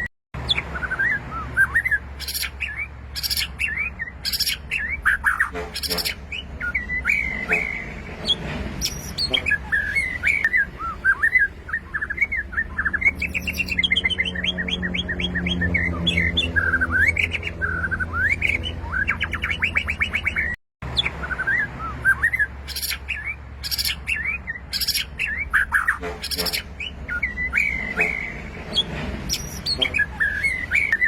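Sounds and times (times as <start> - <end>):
bird singing whistled phrases: 0.0 - 8.0, 8.8 - 31.0.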